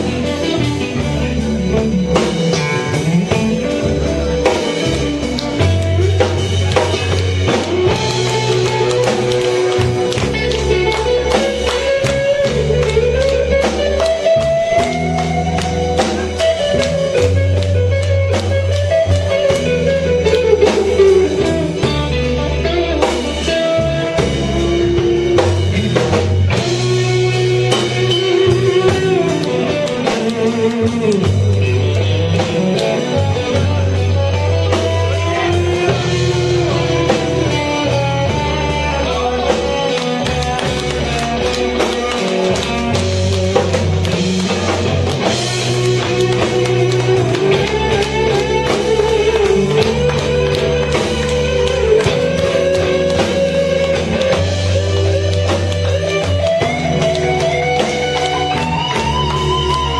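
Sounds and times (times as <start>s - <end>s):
drum kit beat: 0.0s - 59.9s
electric guitar lead: 0.0s - 59.9s.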